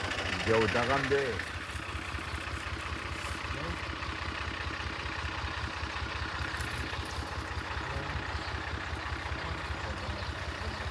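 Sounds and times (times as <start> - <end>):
farm machinery engine pulsing: 0.0 - 10.9.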